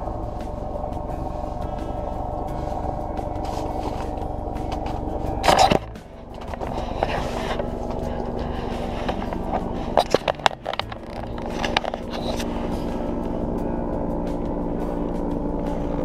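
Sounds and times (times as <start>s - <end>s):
sharp clicks and rustles: 0.0s - 13.3s
engine running: 0.0s - 16.0s.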